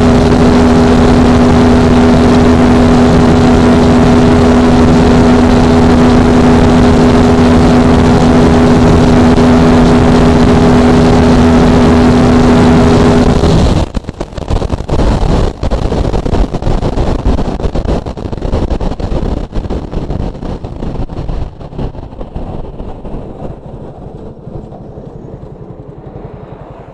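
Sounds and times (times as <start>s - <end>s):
engine stuttering run-down: 0.0s - 26.9s
motorcycle engine at high revs: 0.0s - 26.9s.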